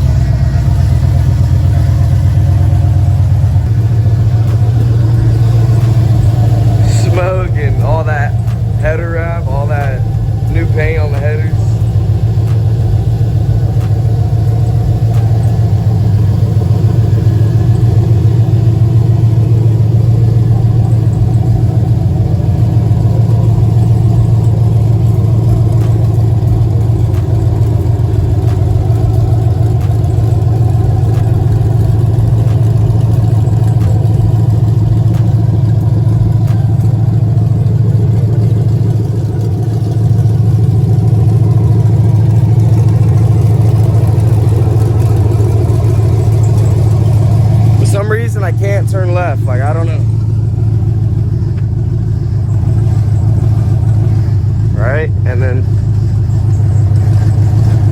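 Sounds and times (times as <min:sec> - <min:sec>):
loud engine idling: 0:00.0 - 0:57.9.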